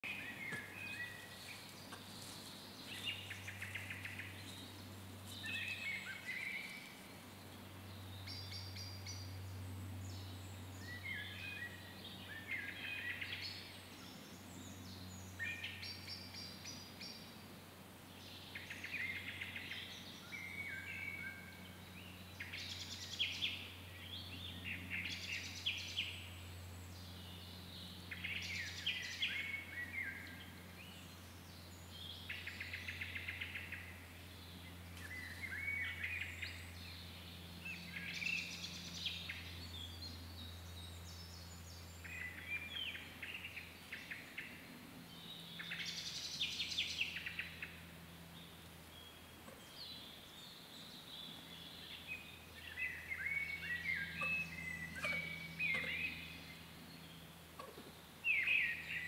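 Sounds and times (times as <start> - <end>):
low steady hum: 0.0 - 59.0
songbirds singing: 0.0 - 59.0.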